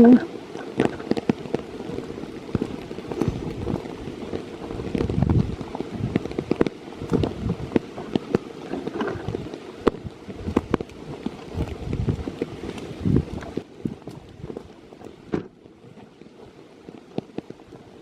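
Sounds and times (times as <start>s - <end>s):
rain falling: 0.0s - 18.0s
wind rumbling on microphone: 0.0s - 18.0s.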